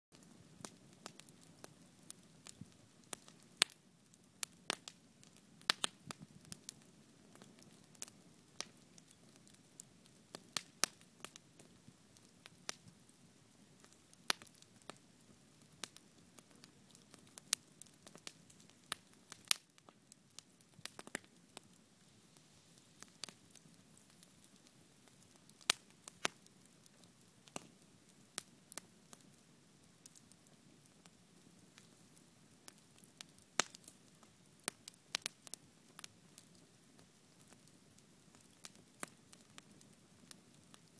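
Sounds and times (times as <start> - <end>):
campfire crackles and pops: 0.1 - 40.9
fire low steady hiss: 0.1 - 40.9.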